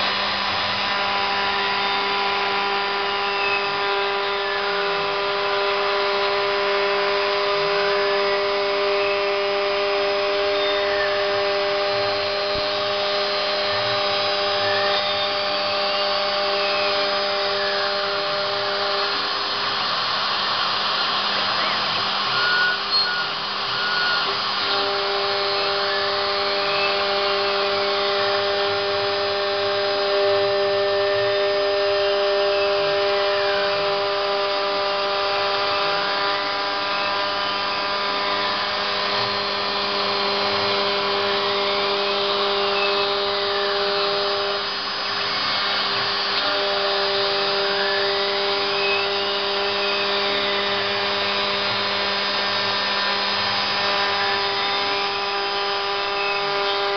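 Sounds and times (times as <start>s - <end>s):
router spindle cutting whine: 0.0s - 56.9s.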